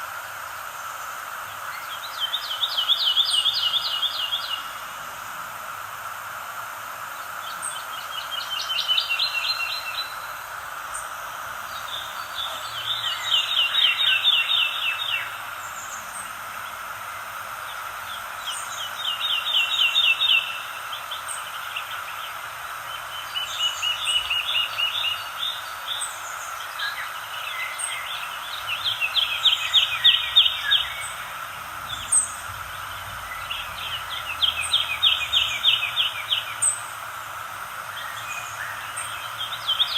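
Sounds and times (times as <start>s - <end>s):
background hiss: 0.0s - 39.9s
songbird rapid trill: 0.6s - 5.5s, 6.9s - 39.9s.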